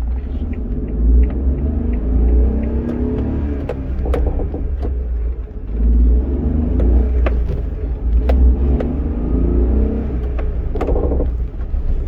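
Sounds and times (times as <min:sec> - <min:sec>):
van engine rumbling: 0:00.0 - 0:12.0.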